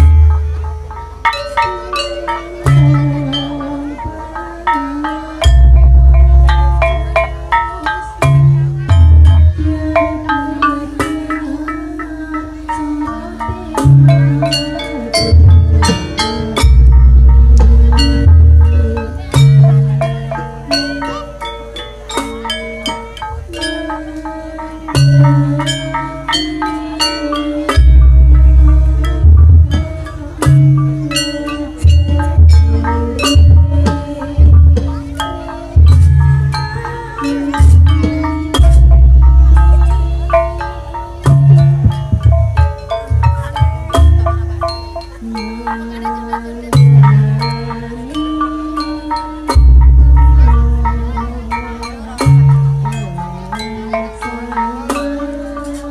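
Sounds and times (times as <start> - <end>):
metal-keyed instruments struck with mallets: 0.0 - 55.9.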